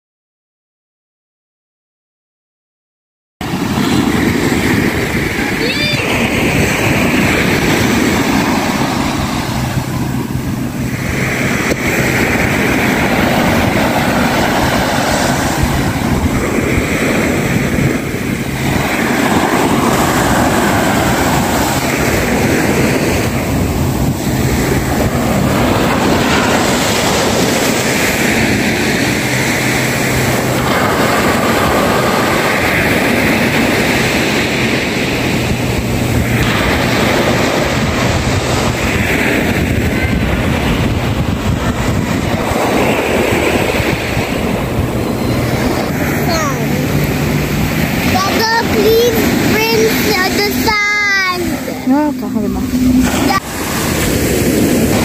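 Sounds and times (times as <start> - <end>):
sea waves breaking on beach: 3.4 - 55.0
wind buffeting microphone: 3.4 - 55.0.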